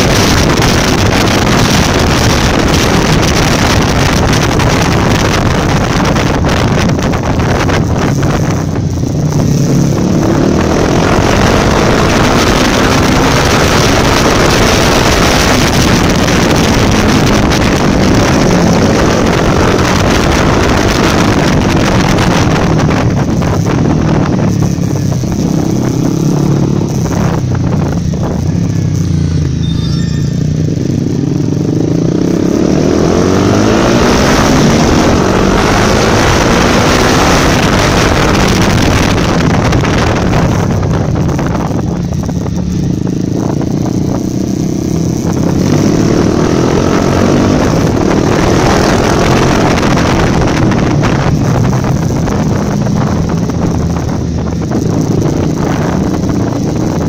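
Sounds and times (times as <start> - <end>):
wind buffeting microphone: 0.0 - 29.6, 30.6 - 57.0
motorcycle engine revving: 0.0 - 57.0.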